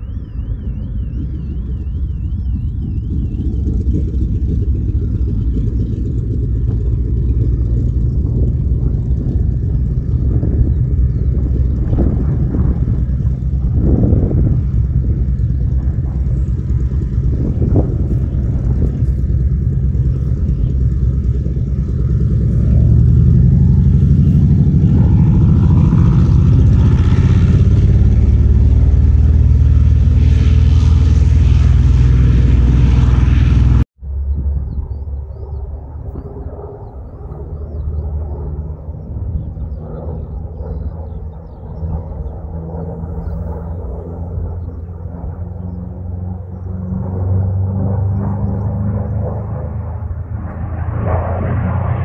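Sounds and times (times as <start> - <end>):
aircraft engine rumble: 0.0 - 52.0.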